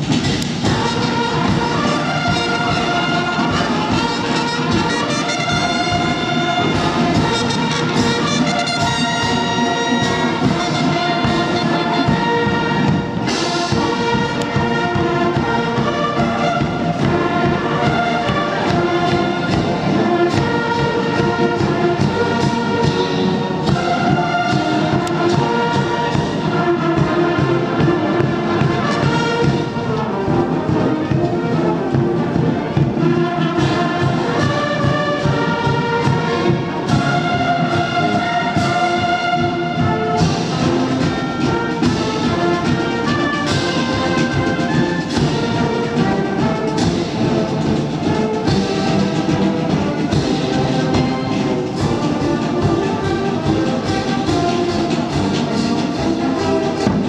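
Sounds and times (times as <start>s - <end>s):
military brass band march: 0.0s - 57.0s.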